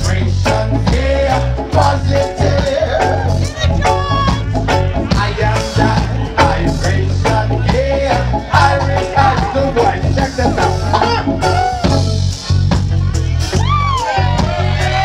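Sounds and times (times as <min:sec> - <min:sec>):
live reggae band playing: 0:00.0 - 0:15.0.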